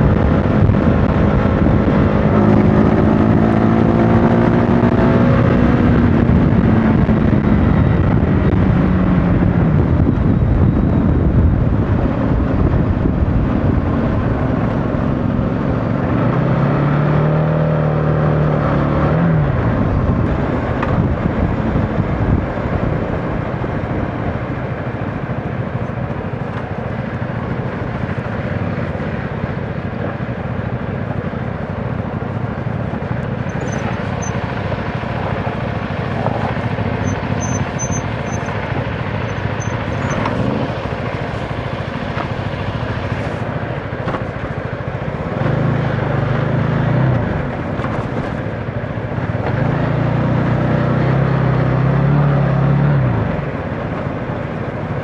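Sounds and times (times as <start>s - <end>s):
wind rush: 0.0s - 16.6s, 19.4s - 50.5s
motorcycle engine running: 0.0s - 18.6s, 19.4s - 55.0s.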